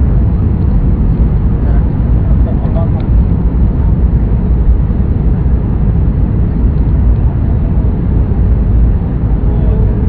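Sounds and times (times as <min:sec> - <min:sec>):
airliner landing rumble: 0:00.0 - 0:10.0.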